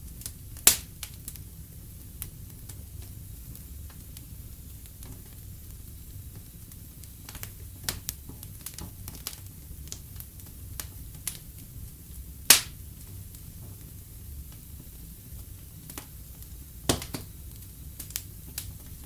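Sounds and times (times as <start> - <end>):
fire pops and snaps: 0.0 - 19.0
flames rumbling: 0.0 - 19.0.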